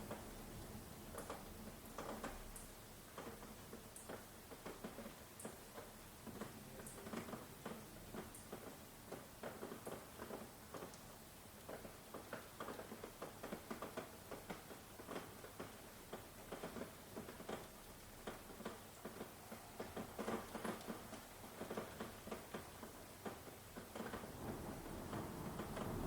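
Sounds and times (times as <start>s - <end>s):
rain patter: 0.0s - 26.0s.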